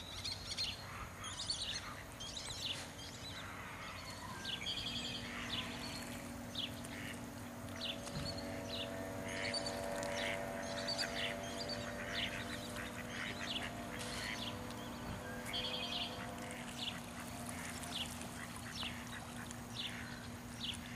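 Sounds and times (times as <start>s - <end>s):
steady low hum: 0.0s - 20.9s
ducks quacking: 3.3s - 20.9s.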